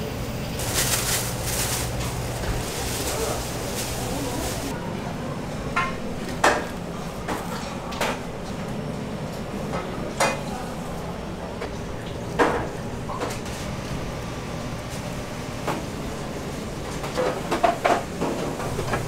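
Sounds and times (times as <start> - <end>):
kitchen equipment hum: 0.0 - 19.0.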